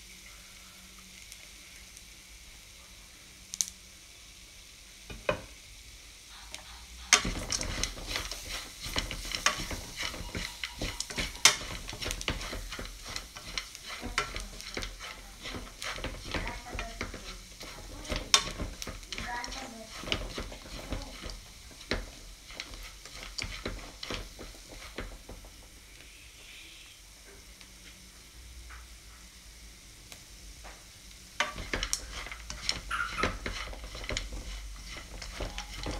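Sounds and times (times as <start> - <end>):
kernels crackling and popping in pan: 0.0 - 35.9.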